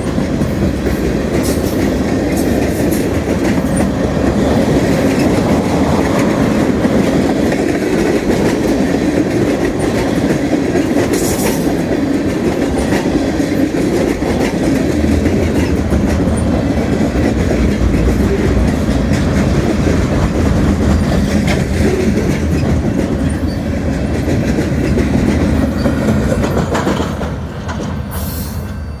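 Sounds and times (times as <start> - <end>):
wheels clicking over rail joints: 0.0 - 28.3
freight train cars rumbling past: 0.0 - 29.0.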